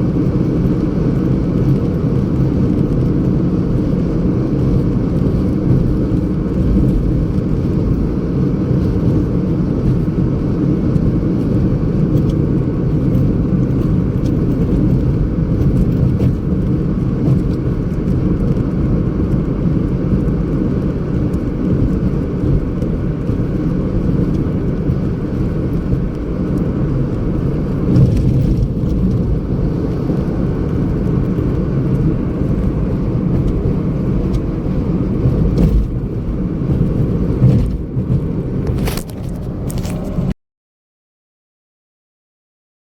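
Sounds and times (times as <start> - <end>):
car driving rumble: 0.0 - 40.4.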